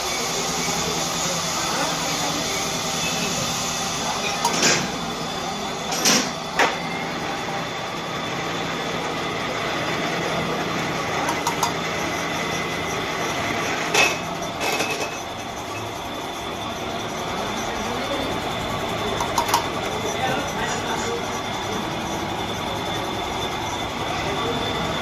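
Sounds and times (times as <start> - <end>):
workshop machinery running: 0.0 - 25.0.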